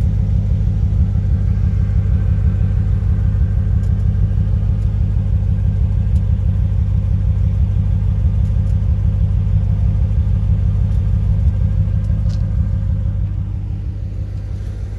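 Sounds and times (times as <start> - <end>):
car engine exhaust running: 0.0 - 14.9.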